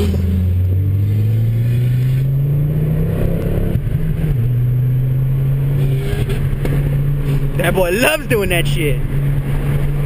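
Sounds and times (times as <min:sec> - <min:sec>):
car engine from inside cabin: 0:00.0 - 0:10.0.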